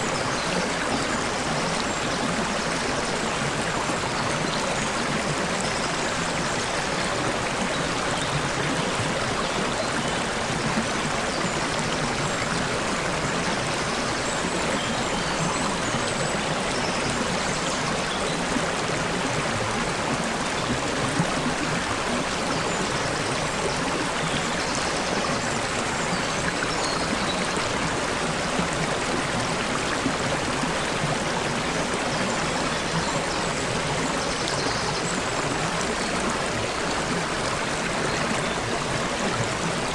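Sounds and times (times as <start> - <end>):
stream babbling and gurgling: 0.0 - 39.9.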